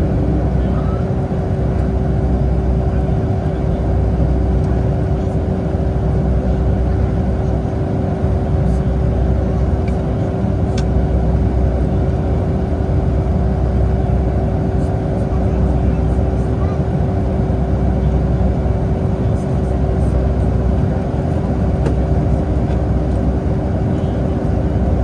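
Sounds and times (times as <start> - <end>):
aircraft cabin engine rumble: 0.0 - 25.0.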